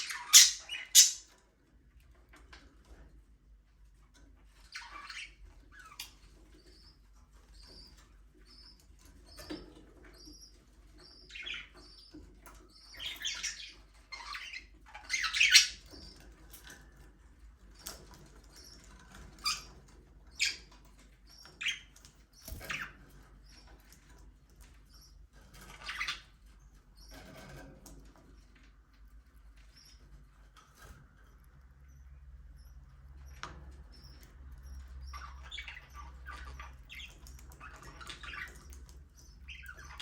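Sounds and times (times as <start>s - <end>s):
budgerigars chirping and chattering: 0.0s - 1.5s, 4.4s - 40.0s.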